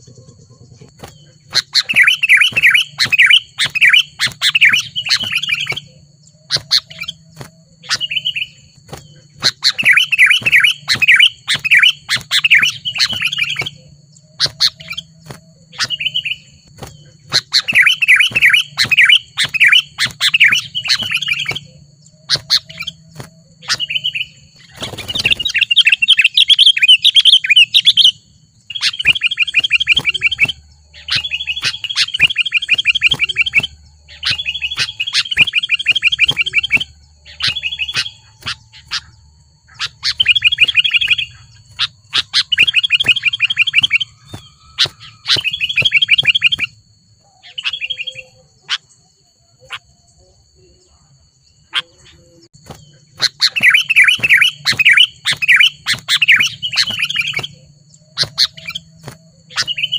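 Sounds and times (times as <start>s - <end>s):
bird bubbling chatter: 0.0s - 48.9s, 51.7s - 59.9s
single bird calls: 0.0s - 50.9s, 51.6s - 59.9s.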